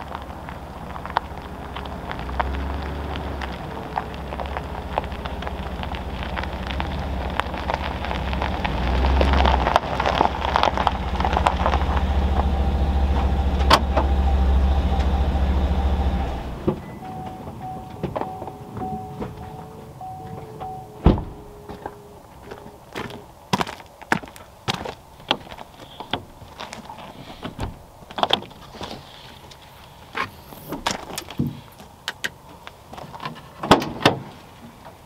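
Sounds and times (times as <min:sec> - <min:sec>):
truck engine rumbling: 0:00.0 - 0:33.7
engine crackles: 0:00.0 - 0:35.0.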